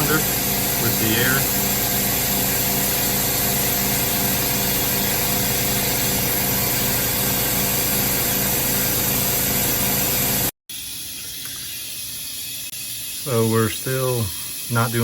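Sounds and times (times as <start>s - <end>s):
hiss of air: 0.0s - 15.0s.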